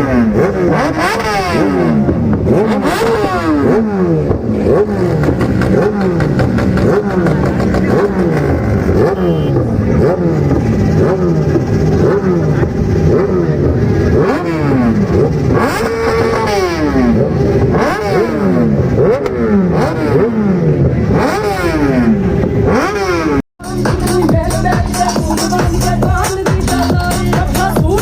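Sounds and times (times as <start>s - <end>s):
din of running engines: 0.0s - 28.0s
motorbike engines revving: 0.0s - 28.0s.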